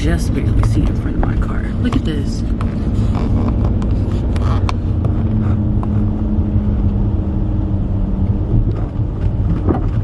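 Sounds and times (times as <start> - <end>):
car rumble inside cabin: 0.0 - 10.0.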